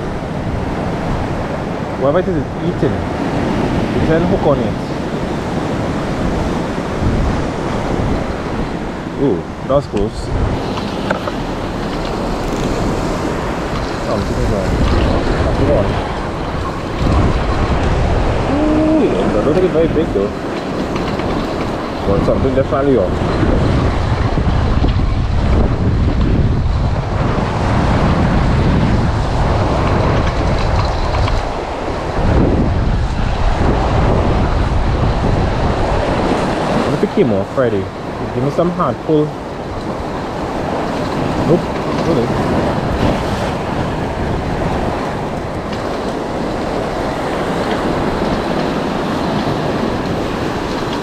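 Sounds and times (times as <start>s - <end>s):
surf washing against rocks: 0.0s - 51.0s
wind buffeting microphone: 0.0s - 51.0s.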